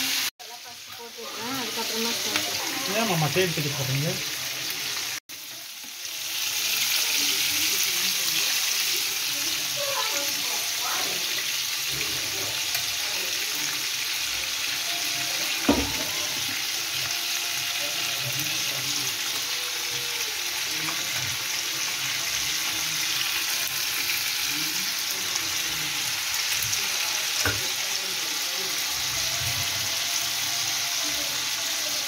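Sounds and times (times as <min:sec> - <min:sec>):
chicken frying in oil: 0:00.0 - 0:32.0.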